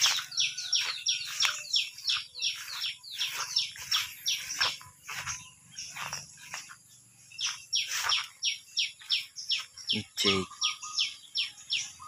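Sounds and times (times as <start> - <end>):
bird chirping rapidly: 0.0 - 12.0.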